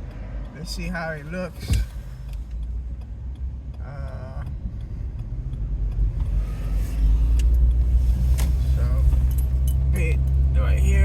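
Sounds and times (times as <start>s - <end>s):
car engine rumble: 0.0s - 11.0s
tyres on road: 0.0s - 11.0s.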